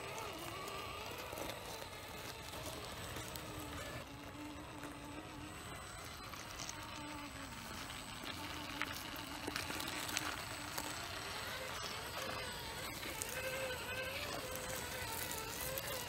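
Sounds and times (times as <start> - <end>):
electric motor whining: 0.0 - 16.0
tyres and stones clicking on rock: 0.0 - 16.0.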